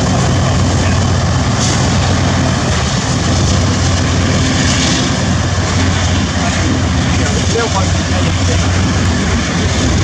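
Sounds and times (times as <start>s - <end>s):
diesel locomotive drone: 0.0s - 10.0s.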